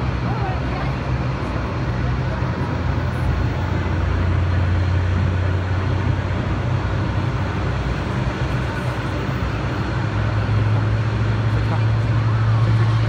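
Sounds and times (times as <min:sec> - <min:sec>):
muffled jet engines rumbling: 0:00.0 - 0:13.0.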